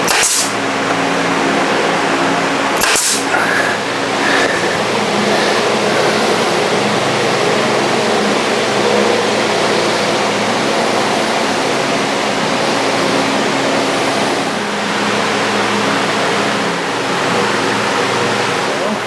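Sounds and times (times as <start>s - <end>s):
machine motor hissing: 0.0s - 19.0s
faint hum: 0.6s - 19.0s.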